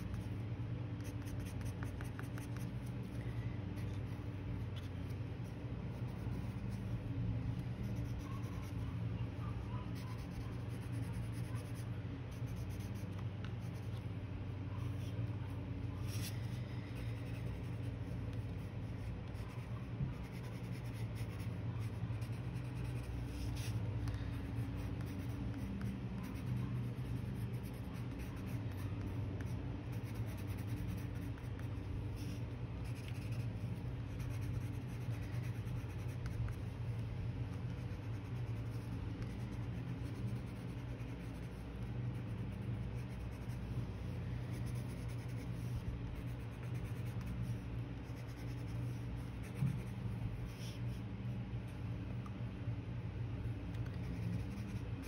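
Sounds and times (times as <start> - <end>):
coloured pencil scratching on paper: 0.0 - 3.2, 3.8 - 51.0, 53.7 - 55.0
steady low hum: 0.0 - 55.0.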